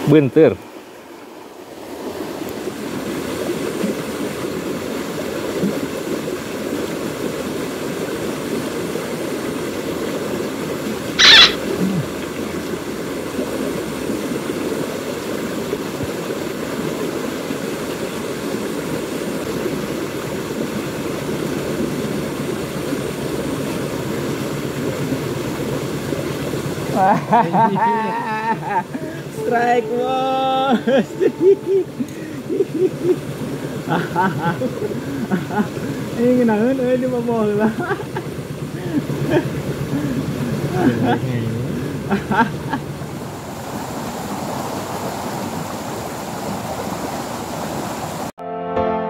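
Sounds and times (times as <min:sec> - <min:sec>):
river water rushing: 0:00.0 - 0:48.4.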